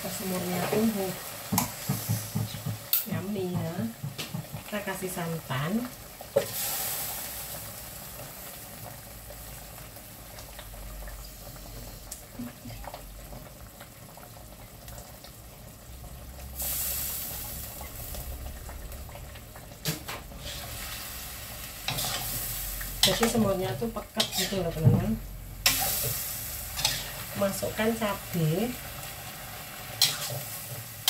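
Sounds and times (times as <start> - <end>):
liquid sizzling in a wok: 0.0 - 31.0.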